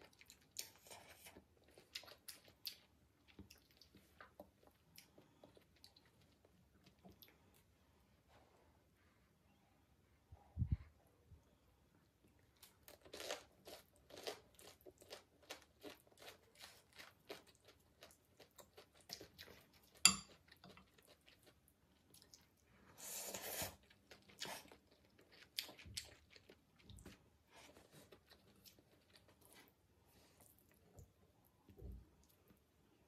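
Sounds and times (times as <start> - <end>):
chewing noodles: 0.0 - 7.7, 12.1 - 31.1.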